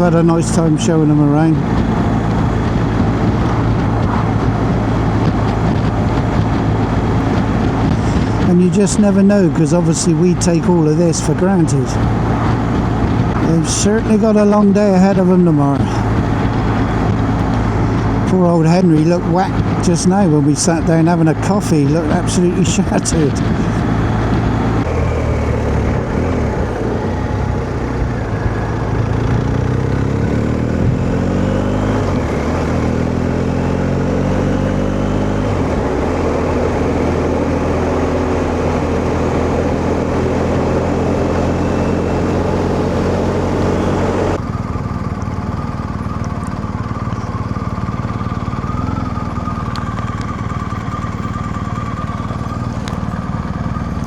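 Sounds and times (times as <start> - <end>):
wind noise: 0.0 - 44.4
motorcycle engine running: 0.0 - 54.0.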